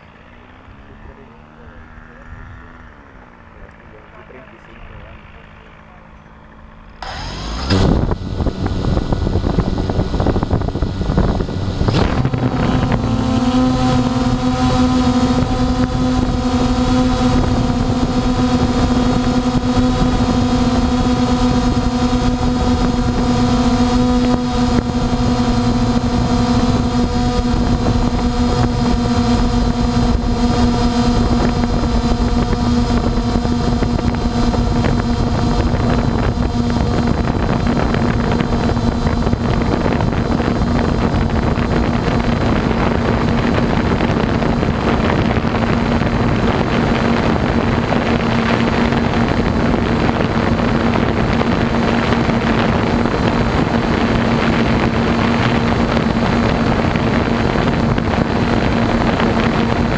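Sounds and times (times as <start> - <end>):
drone motor hum: 0.0 - 59.9
wind rushing over microphone: 7.0 - 59.9.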